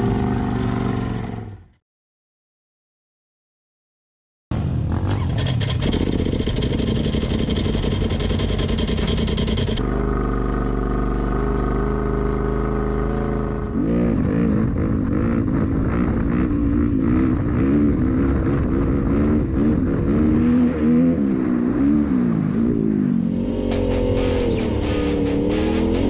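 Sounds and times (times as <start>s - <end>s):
off-road vehicle engine revving: 4.6s - 26.0s.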